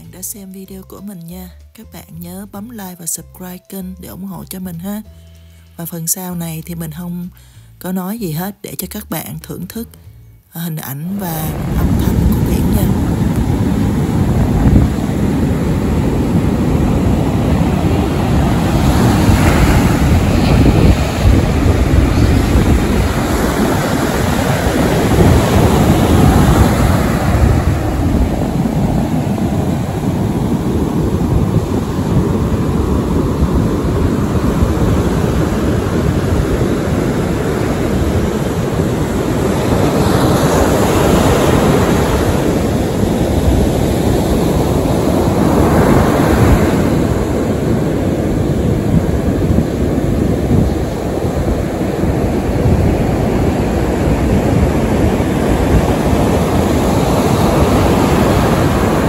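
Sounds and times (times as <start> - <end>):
ocean surf breaking on beach: 11.3 - 59.0.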